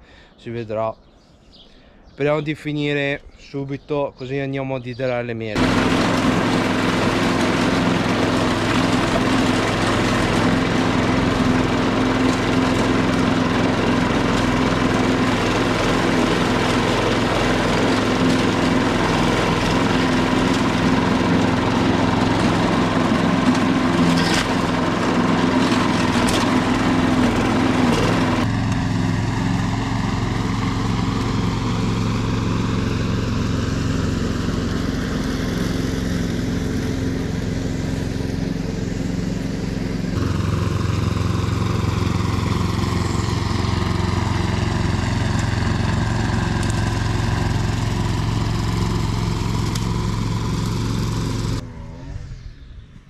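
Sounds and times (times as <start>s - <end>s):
petrol lawn mower running: 5.6s - 52.5s.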